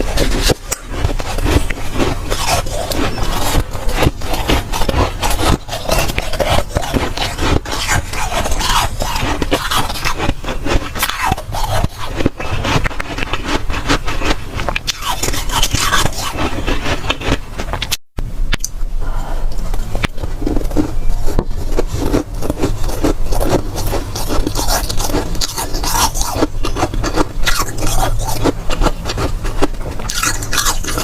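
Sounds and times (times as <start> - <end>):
chewing crunchy ice: 0.0 - 18.0, 19.8 - 31.0.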